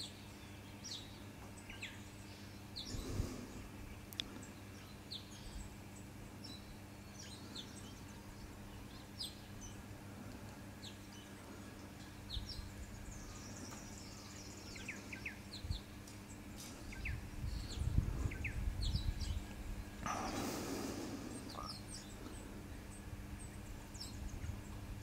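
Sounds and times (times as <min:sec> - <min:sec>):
birds chirping and whistling: 0:00.0 - 0:05.8, 0:06.4 - 0:09.9, 0:10.8 - 0:24.9
faint steady hum: 0:00.0 - 0:25.0.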